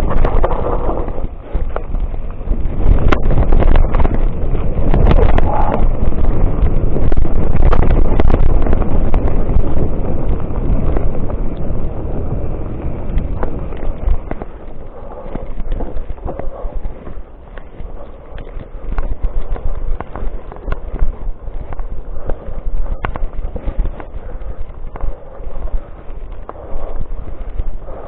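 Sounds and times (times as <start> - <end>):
bike rattling over bumps: 0.0 - 28.0
wind buffeting microphone: 0.0 - 28.0.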